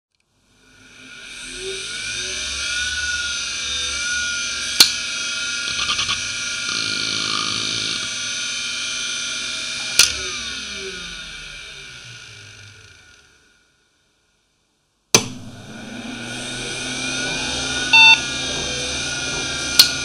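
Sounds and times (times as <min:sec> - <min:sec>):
hard drive spindle whine: 0:00.7 - 0:13.4, 0:15.3 - 0:20.0.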